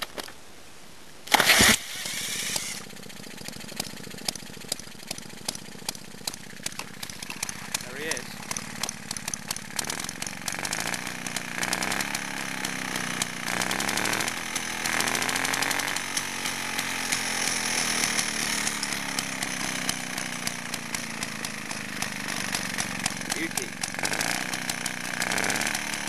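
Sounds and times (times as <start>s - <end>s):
two-stroke engine running fast: 1.3s - 26.0s.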